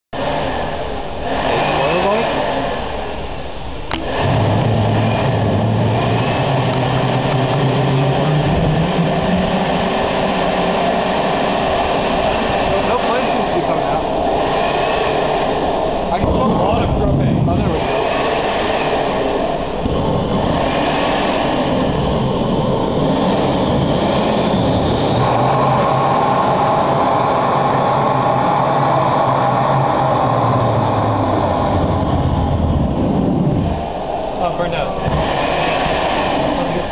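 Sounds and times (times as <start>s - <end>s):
jet engine running: 0.1s - 36.9s
low hum rising in pitch: 0.2s - 36.9s
turbojet spinning up with vacuum: 0.2s - 36.9s.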